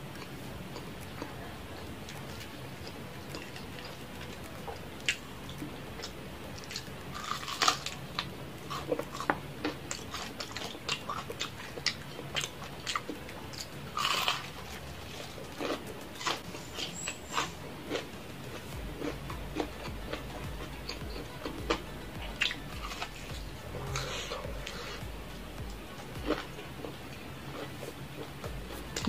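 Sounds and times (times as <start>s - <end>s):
crunching fried chicken: 0.0s - 29.0s.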